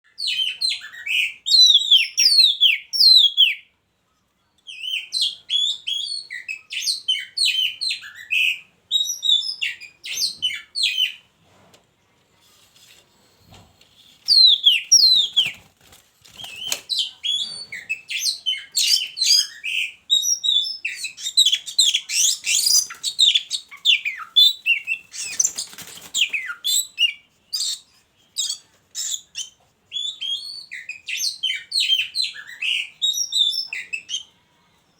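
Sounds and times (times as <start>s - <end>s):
birds singing chirps and whistles: 0.1s - 3.7s, 4.6s - 11.3s, 14.2s - 15.7s, 16.3s - 34.4s.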